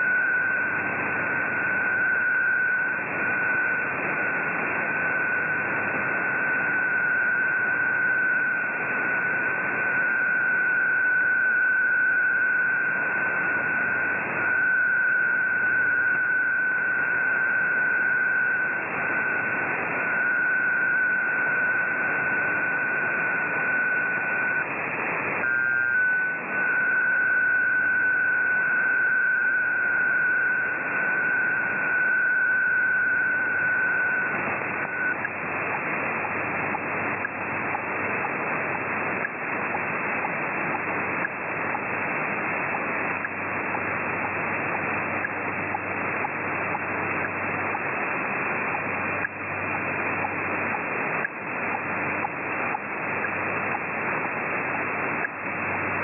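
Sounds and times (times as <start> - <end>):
radio hiss with crackles: 0.0 - 56.0
steady radio tone: 0.0 - 56.0.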